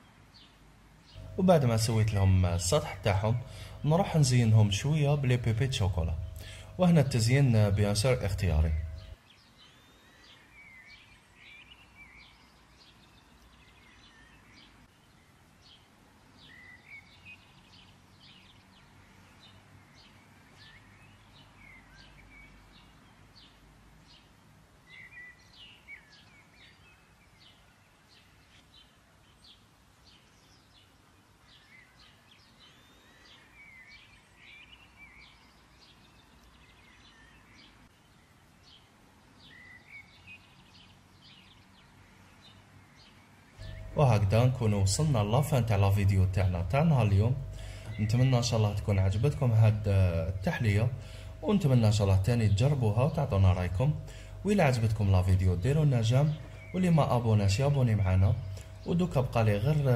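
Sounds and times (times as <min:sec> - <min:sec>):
faint birds chirping: 0:00.0 - 0:59.9.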